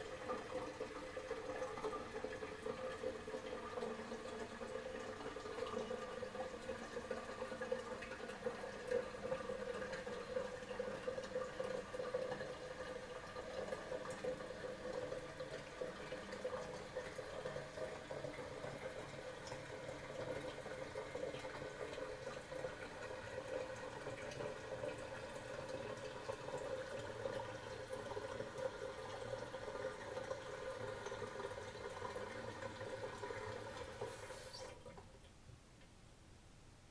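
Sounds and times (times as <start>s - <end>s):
toilet cistern refilling: 0.0s - 35.2s.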